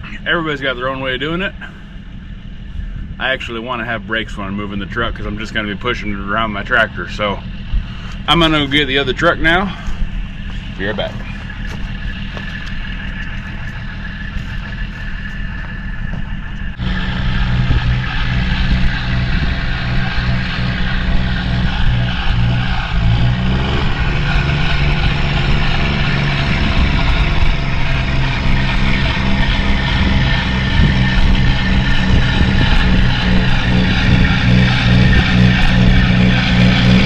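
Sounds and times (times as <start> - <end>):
diesel truck engine droning: 0.0 - 37.0.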